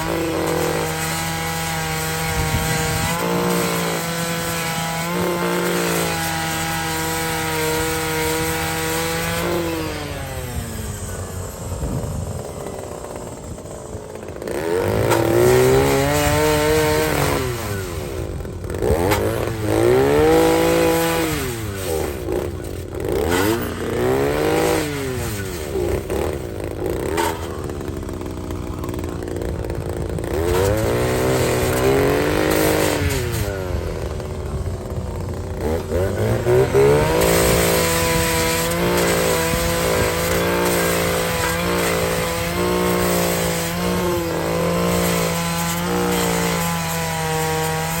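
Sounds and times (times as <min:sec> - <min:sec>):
power grinder motor: 0:00.0 - 0:48.0.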